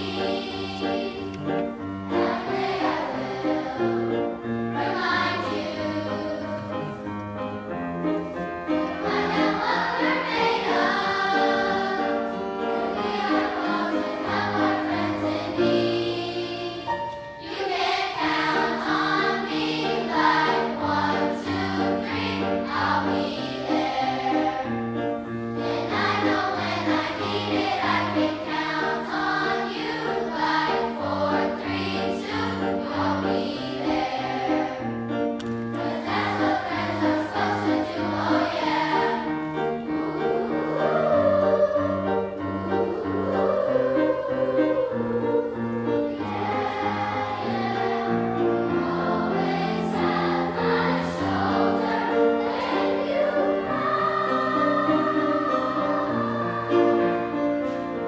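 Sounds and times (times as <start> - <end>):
children's choir singing: 0.0 - 58.0
grand piano accompaniment: 0.0 - 58.0.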